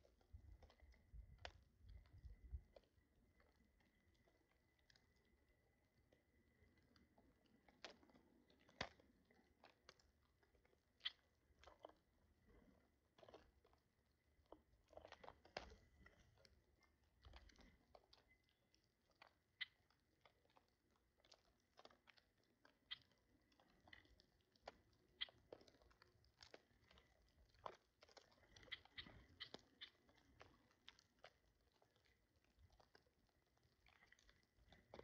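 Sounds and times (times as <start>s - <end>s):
birds crunching and pecking: 0.0s - 35.0s.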